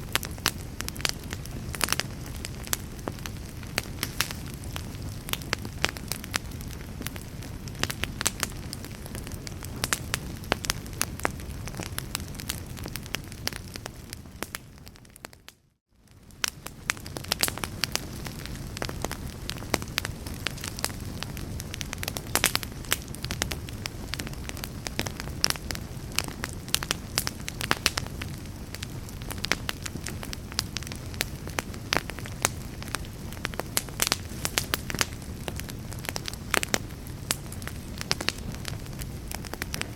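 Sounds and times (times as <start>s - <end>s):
low rush of burning: 0.0s - 15.3s, 16.0s - 39.9s
log fire crackling and popping: 0.0s - 39.9s.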